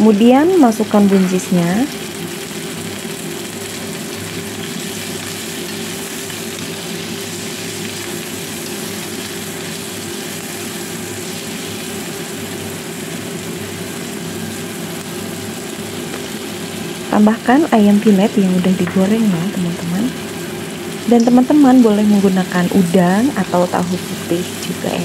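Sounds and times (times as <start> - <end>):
beans sizzling in oil: 0.0 - 25.0
steady low hum: 0.0 - 25.0.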